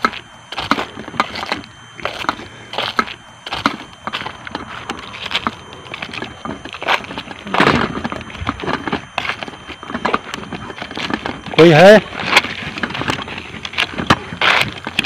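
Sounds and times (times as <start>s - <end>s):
footsteps crunching on dry ground: 0.0s - 15.0s
rustling and handling noise: 0.0s - 15.0s.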